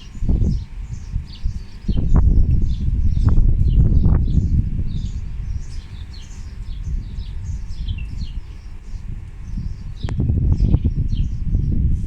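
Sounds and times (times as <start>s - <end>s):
small birds chirping: 0.0s - 12.0s
uneven low rumble: 0.0s - 12.0s.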